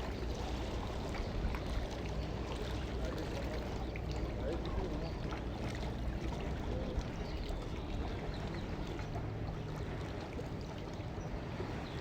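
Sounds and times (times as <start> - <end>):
water noise: 0.0 - 12.0.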